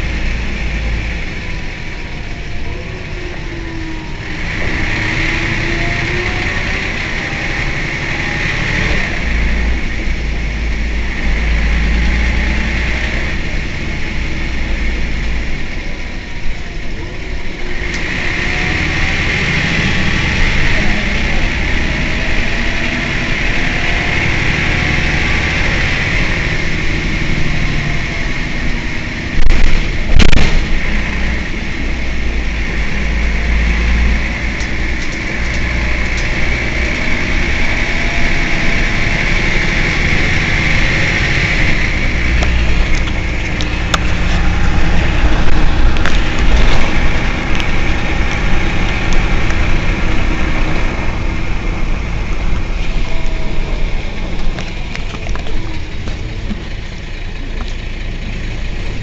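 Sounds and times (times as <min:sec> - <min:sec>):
bus engine idling: 0:00.0 - 0:59.0
steady high whine: 0:00.0 - 0:59.0.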